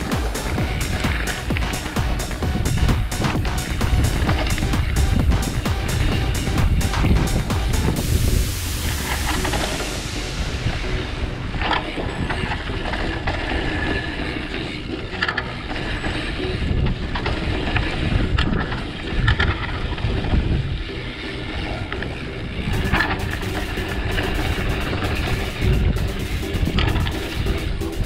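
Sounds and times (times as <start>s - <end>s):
bike rattling over bumps: 0.0s - 28.0s
bike tyre rumble on dirt: 0.0s - 28.0s
wind on microphone: 0.0s - 28.0s.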